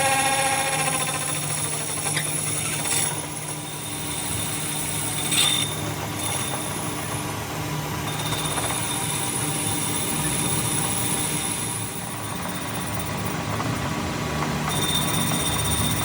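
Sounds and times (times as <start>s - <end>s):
machine humming and whining: 0.0s - 16.0s.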